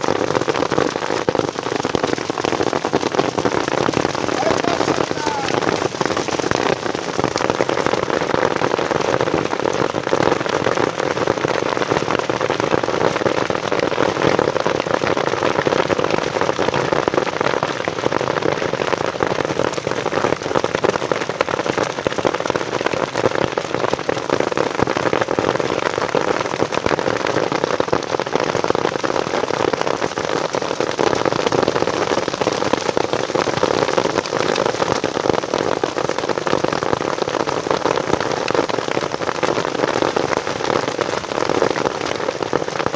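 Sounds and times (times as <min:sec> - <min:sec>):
hail and rain pelting grass: 0:00.0 - 0:42.9.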